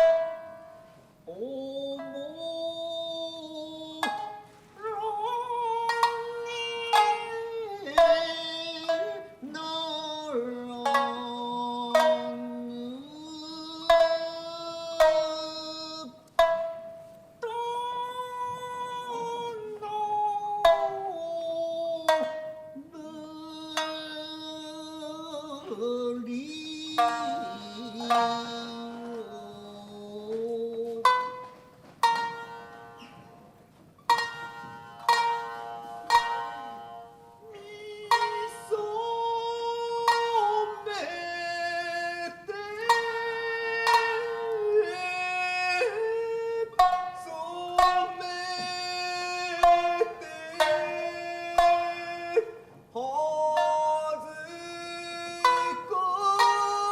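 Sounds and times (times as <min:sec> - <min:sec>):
shamisen plucked strokes: 0:00.0 - 0:56.9.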